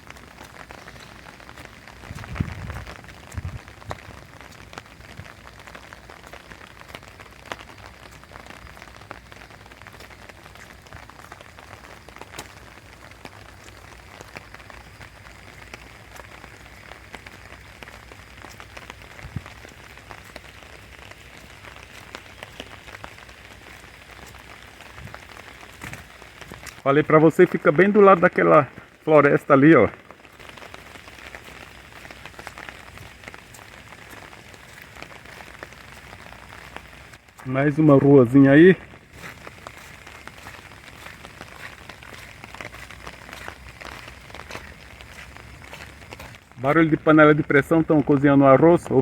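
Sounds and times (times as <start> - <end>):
raindrops tapping close by: 0.0 - 49.0
steady rain falling: 0.0 - 49.0.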